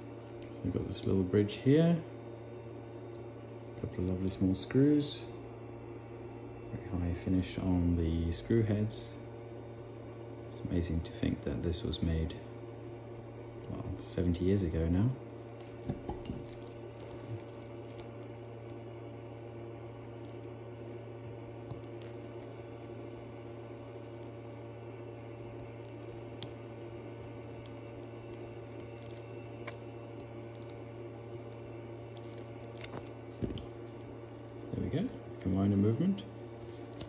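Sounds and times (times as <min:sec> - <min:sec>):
low hum of room tone: 0:00.0 - 0:37.0.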